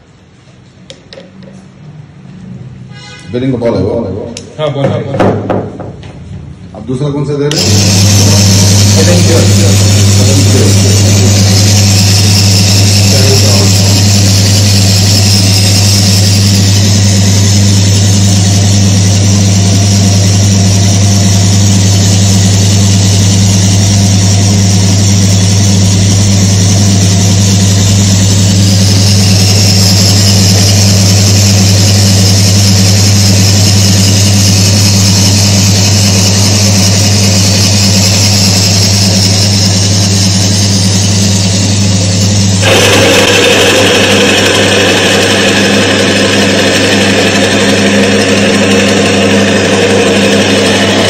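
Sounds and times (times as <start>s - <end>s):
electric motor humming: 7.5s - 51.0s.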